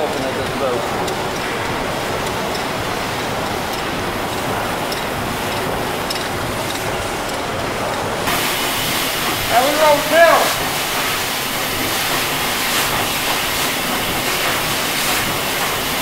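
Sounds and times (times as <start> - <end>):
steam engine rumble and hiss: 0.0 - 16.0.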